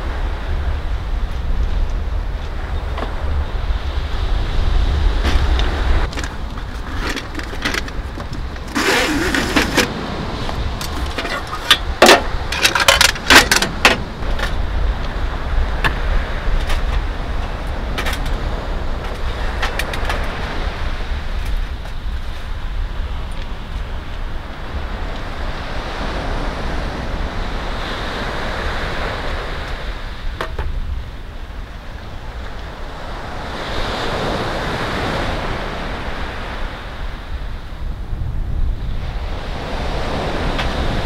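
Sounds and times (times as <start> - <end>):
low rumble of wind: 0.0 - 41.0.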